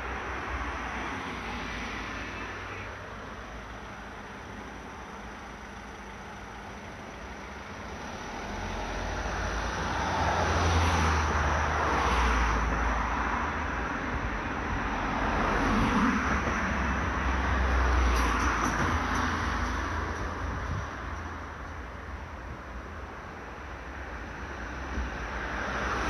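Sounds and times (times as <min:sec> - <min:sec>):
passing vehicles engine rumble: 0:00.0 - 0:26.0.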